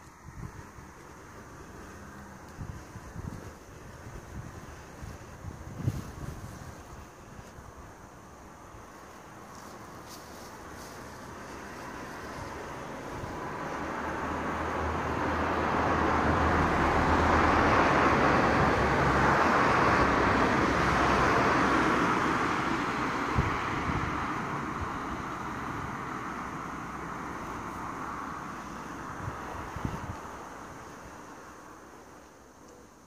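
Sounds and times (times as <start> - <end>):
car passing by: 0.0 - 33.0.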